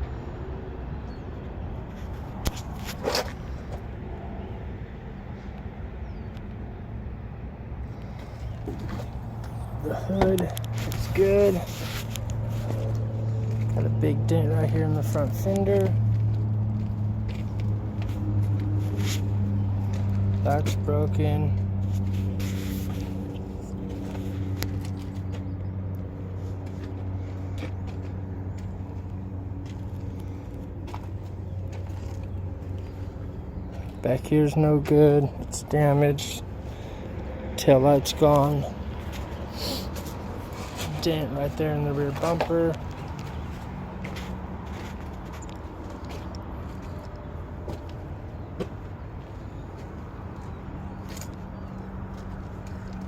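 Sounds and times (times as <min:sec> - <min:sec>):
low engine hum: 0:00.0 - 0:53.0.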